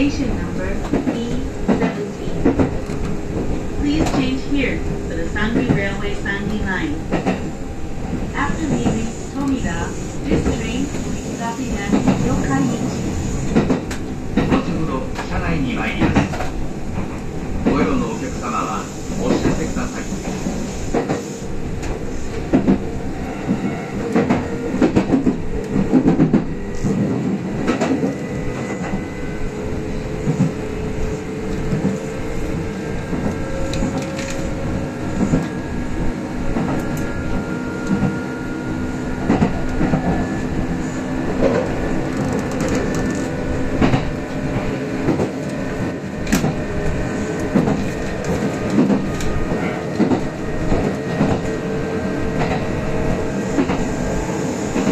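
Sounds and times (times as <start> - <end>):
track knocks and clacks: 0.0 - 29.0, 30.2 - 35.6, 36.4 - 38.2, 39.1 - 54.9
train wheels rumbling on rail: 0.0 - 54.9.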